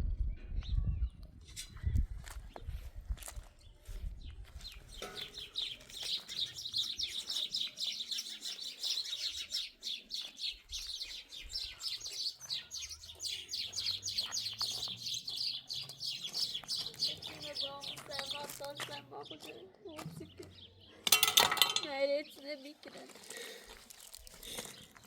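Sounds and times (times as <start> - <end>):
small birds chirping: 0.5 - 25.0.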